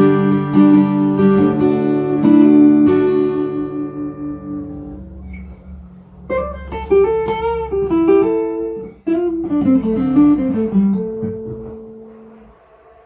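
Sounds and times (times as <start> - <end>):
acoustic guitar picked notes: 0.0 - 13.0.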